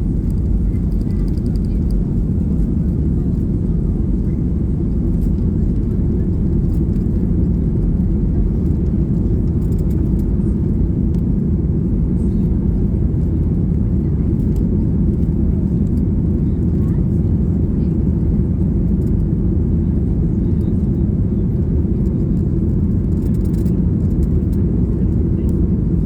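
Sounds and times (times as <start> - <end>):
jet engine rumble in cabin: 0.0 - 26.0.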